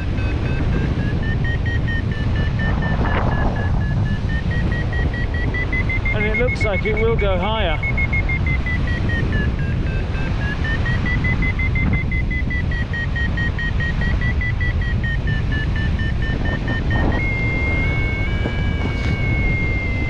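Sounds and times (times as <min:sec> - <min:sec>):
variometer beeping: 0:00.0 - 0:20.0
wind rush on microphone: 0:00.0 - 0:20.0.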